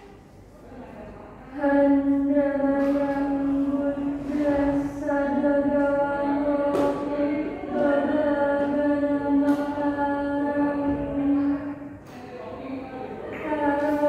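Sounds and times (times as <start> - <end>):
woman chanting on one note: 1.5 - 14.0.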